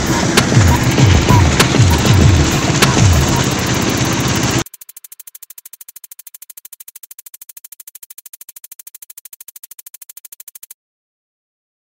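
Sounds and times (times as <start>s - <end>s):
synthesized electronic pulsing: 0.0s - 10.8s.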